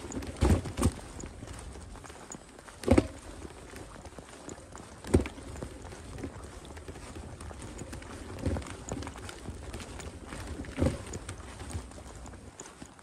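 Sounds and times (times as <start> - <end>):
footsteps on paved path: 0.0 - 13.0.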